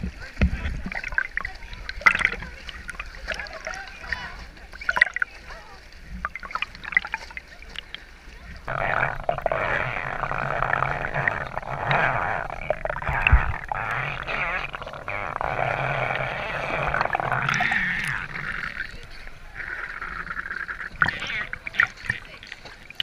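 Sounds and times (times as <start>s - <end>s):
muffled underwater churning water: 0.0s - 23.0s.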